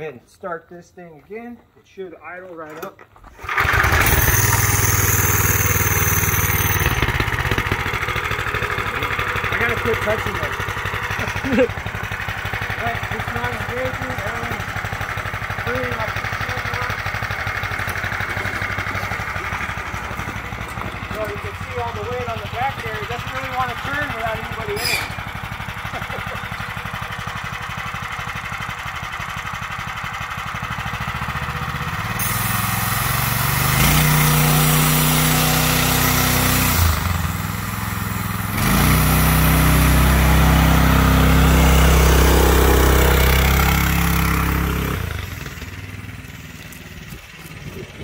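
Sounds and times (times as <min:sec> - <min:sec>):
go-kart engine revving: 0:03.2 - 0:48.0.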